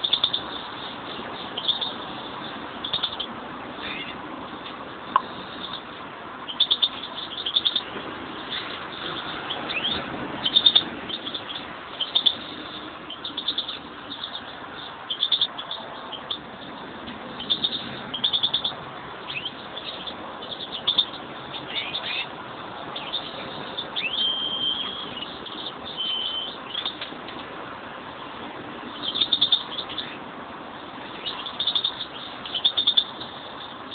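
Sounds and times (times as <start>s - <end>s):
greenfinches chirping: 0.0s - 27.1s, 28.8s - 33.9s.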